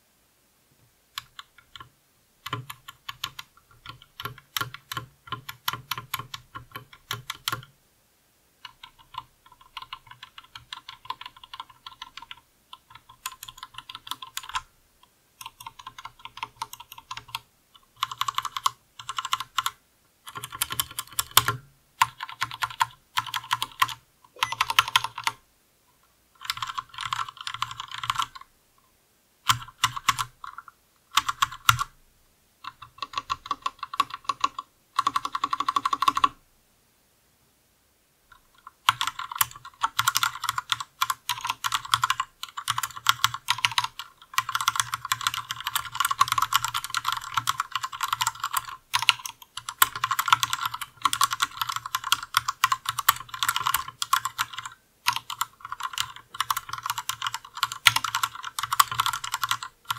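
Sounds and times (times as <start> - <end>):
mechanical keyboard typing: 1.2 - 7.7, 8.6 - 14.7, 15.4 - 25.4, 26.4 - 28.4, 29.4 - 31.9, 32.6 - 36.4, 38.3 - 59.9.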